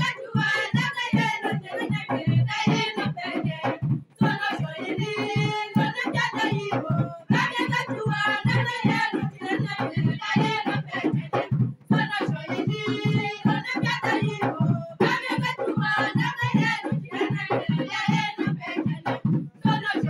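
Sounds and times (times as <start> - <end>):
voices singing a worship song: 0.0 - 20.0.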